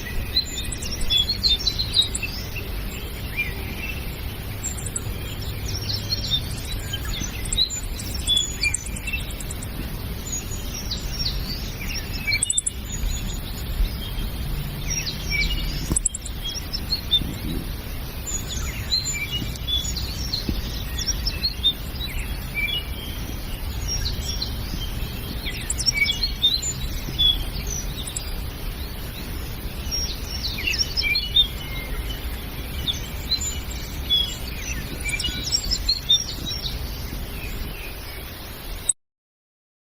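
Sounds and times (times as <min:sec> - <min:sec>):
songbirds chirping and whistling: 0:00.0 - 0:38.9.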